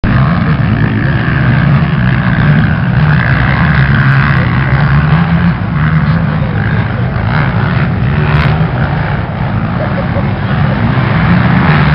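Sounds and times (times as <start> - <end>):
atv engine drone: 0.0 - 11.9.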